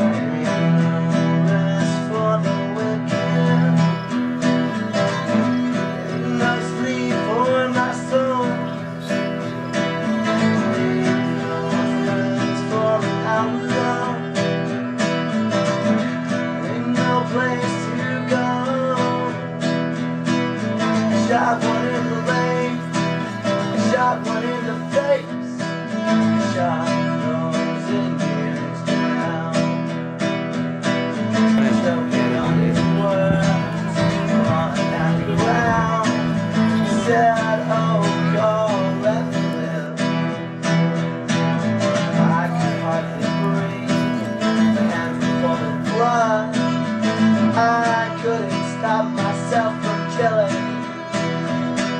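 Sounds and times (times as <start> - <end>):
strummed acoustic guitar: 0.0 - 51.9.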